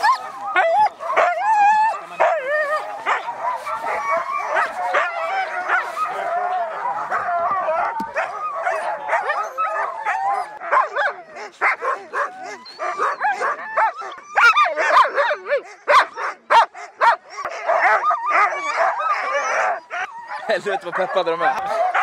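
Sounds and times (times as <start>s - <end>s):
sled dogs barking and yelping: 0.0s - 22.0s.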